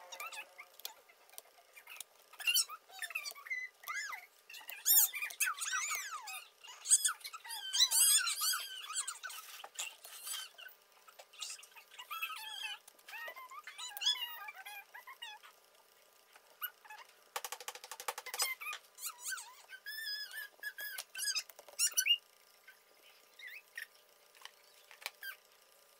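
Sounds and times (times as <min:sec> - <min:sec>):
small animals squeaking: 0:00.0 - 0:15.7, 0:16.6 - 0:17.1, 0:18.1 - 0:25.4.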